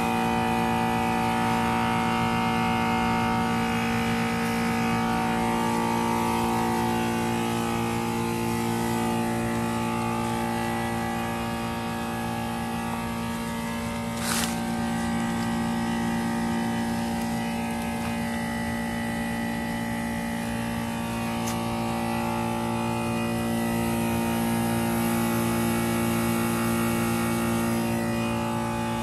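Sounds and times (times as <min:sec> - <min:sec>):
heat pump mechanical hum: 0:00.0 - 0:29.0.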